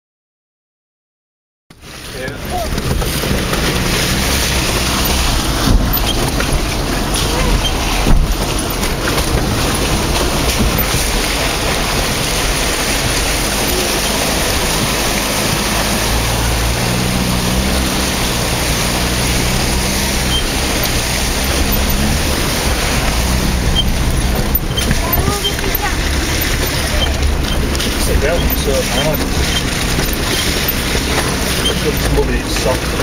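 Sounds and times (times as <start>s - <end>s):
car engine low hum: 1.7s - 33.0s
loud rushing cabin noise: 1.7s - 33.0s.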